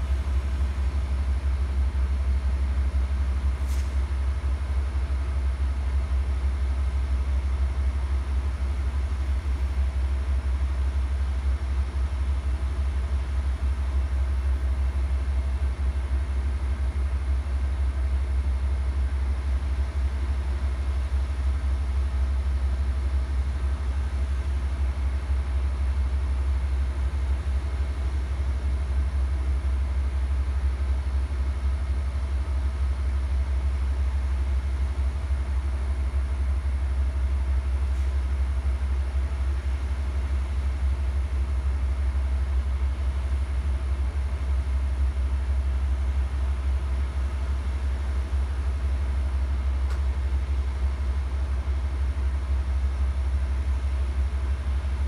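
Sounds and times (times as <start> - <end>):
diesel locomotives idling: 0.0 - 55.0.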